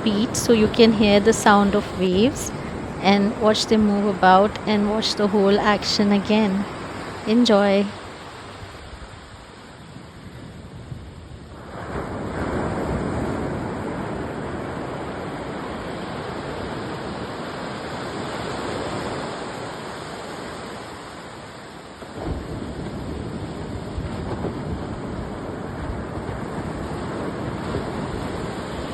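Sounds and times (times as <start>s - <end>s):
waves breaking on a beach: 0.0s - 28.9s.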